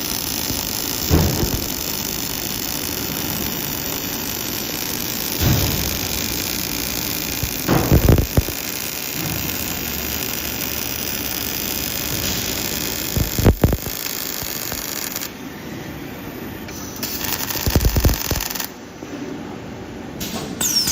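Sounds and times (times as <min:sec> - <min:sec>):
production-line machinery running: 0:00.0 - 0:18.8.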